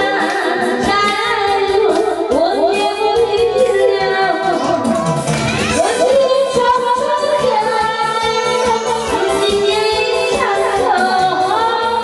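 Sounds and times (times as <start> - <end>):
loud backing track: 0.0 - 12.0
person singing karaoke into microphone: 0.0 - 12.0.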